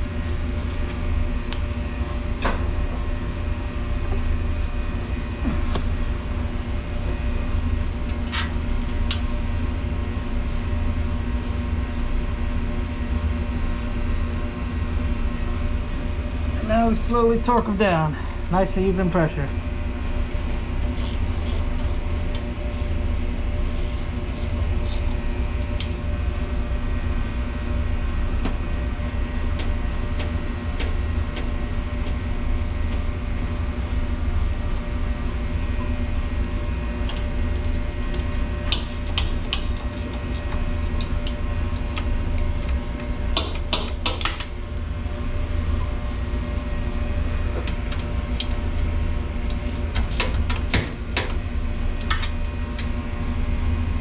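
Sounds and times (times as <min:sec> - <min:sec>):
low machinery rumble and hum: 0:00.0 - 0:54.0.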